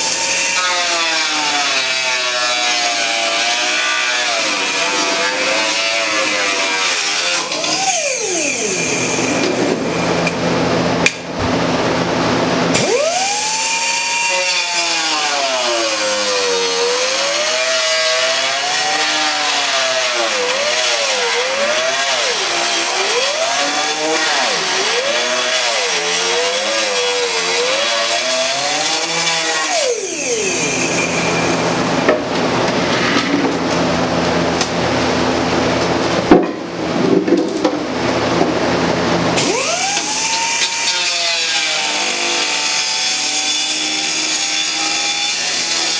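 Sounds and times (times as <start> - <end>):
angle grinder cutting fiberglass: 0.0 - 11.0, 12.7 - 33.6, 39.3 - 45.9.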